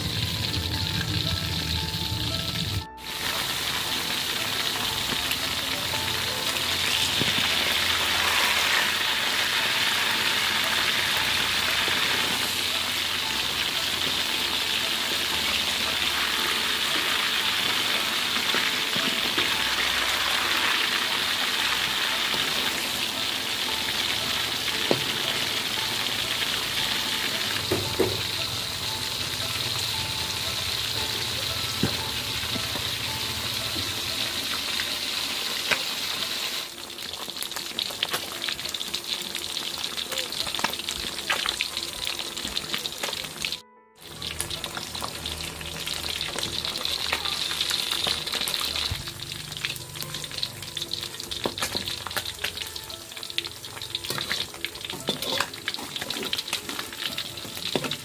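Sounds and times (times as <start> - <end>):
fish sizzling in hot oil: 0.0 - 58.0.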